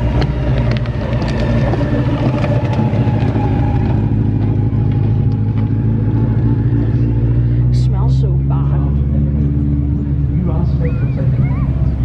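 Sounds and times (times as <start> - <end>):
car engines droning: 0.0 - 12.0.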